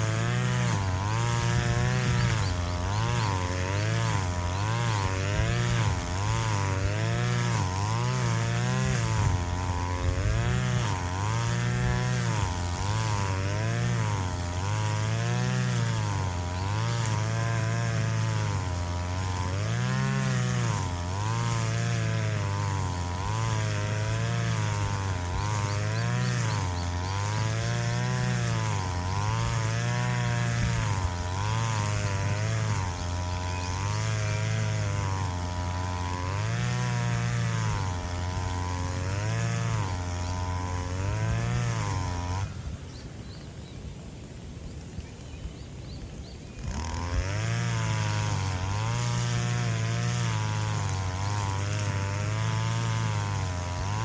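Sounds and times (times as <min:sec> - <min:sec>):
brush cutter engine mowing grass: 0:00.0 - 0:54.0.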